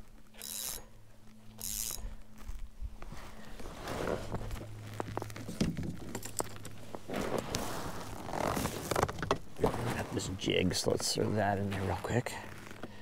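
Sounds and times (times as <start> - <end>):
fishing gear clicking and rustling: 0.0 - 13.0.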